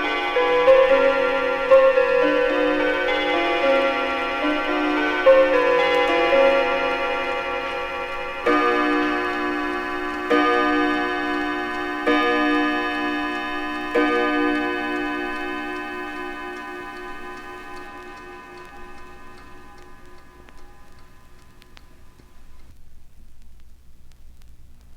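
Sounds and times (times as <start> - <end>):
clock striking ringing tone: 0.0 - 22.6
faint clock ticking: 0.0 - 24.9.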